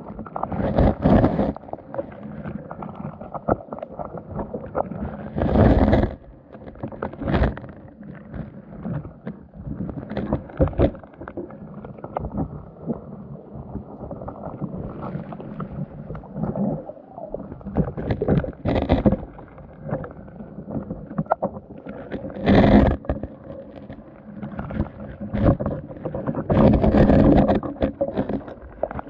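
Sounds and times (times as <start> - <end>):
water surging underwater: 0.0 - 29.0.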